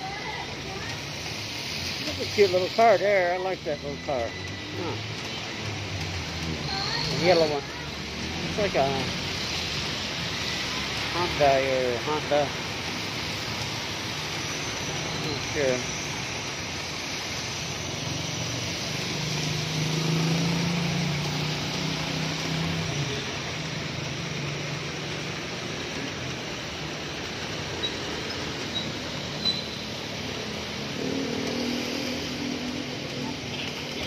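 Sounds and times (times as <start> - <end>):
passing traffic: 0.0 - 34.0
rain hissing on wet street: 0.0 - 34.0
vehicle engine humming: 0.0 - 34.0.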